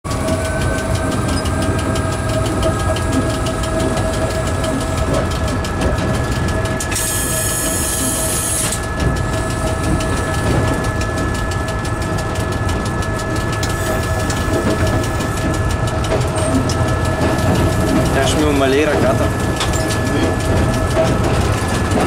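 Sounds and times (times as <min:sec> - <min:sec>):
train rumbling on track: 0:00.0 - 0:22.0.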